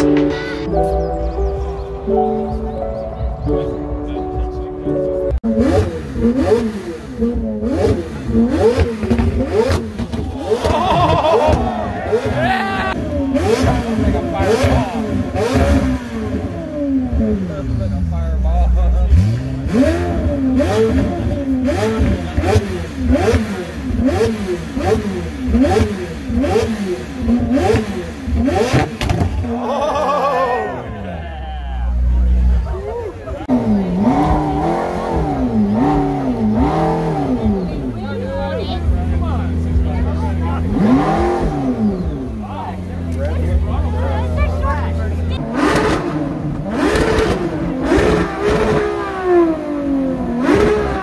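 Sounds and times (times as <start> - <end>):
car engine revving: 0.8 - 51.0.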